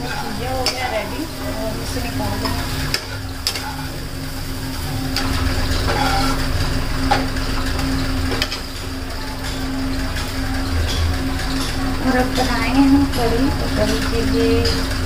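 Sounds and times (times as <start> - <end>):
spatula scraping a pan: 0.0 - 12.5
food frying in oil: 0.0 - 15.0
steady hum: 0.0 - 15.0.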